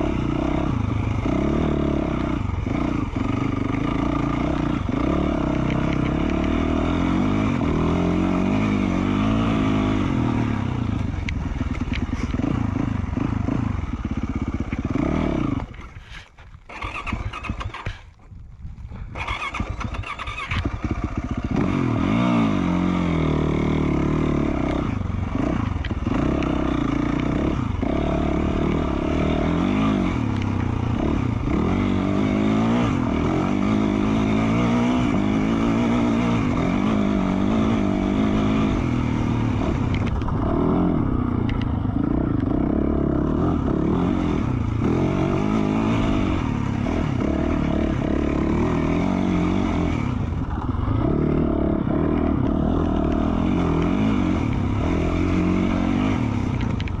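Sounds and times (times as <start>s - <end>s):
dirt bike engine revving: 0.0s - 18.1s, 19.2s - 57.0s.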